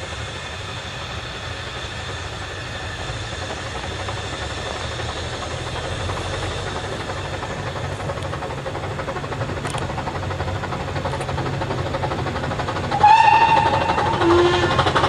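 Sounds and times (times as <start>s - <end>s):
distant steam locomotive running: 0.0s - 15.0s.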